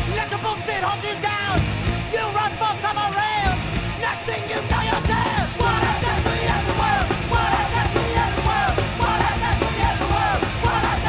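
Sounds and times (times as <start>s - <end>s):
punk rock song: 0.0s - 11.0s.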